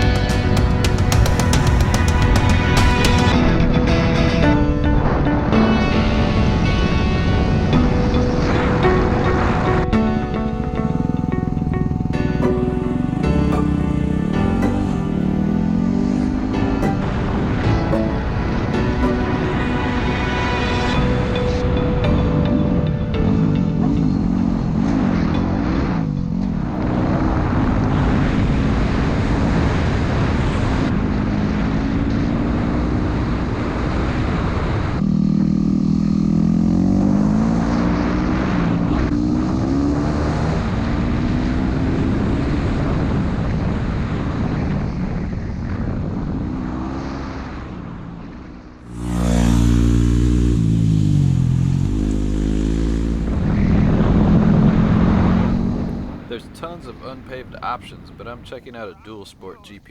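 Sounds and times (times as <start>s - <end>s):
motorcycle engine revving: 6.2s - 57.4s.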